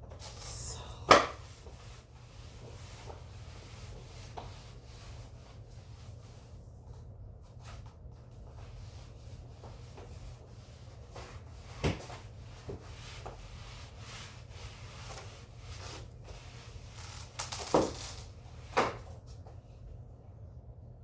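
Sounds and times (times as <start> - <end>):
rubbing a hard floor: 0.1 - 19.5.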